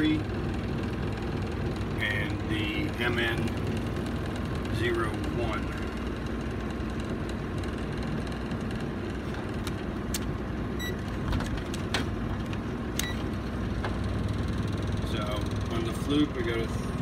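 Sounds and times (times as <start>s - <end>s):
hvac unit humming: 0.0s - 17.0s.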